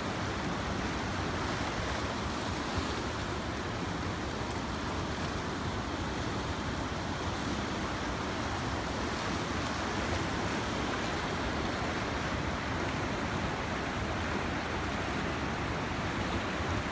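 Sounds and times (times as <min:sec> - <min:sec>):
fast choppy river water rushing: 0:00.0 - 0:16.9.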